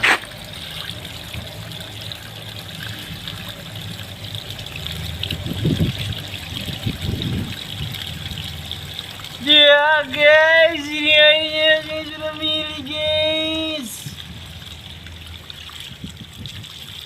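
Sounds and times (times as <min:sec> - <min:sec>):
water flowing and splashing: 0:00.0 - 0:17.0.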